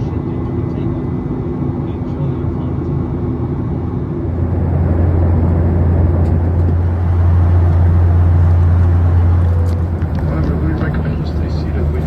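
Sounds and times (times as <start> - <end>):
airplane cabin engine drone: 0.0 - 12.0.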